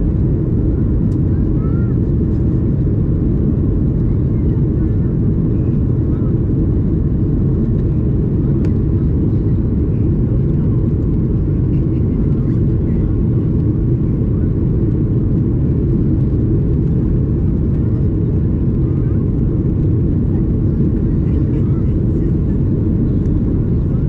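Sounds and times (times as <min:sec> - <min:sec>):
aircraft cabin engine roar: 0:00.0 - 0:24.0.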